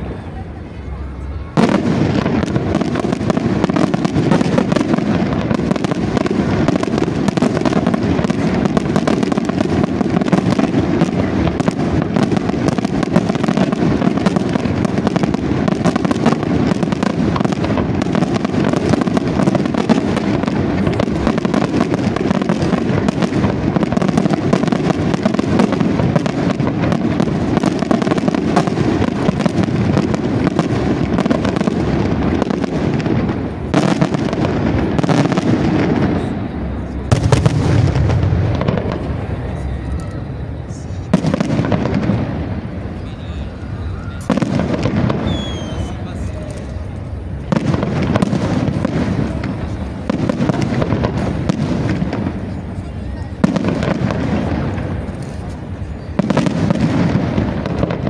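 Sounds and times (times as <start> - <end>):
fireworks bangs and crackle: 0.0 - 58.0.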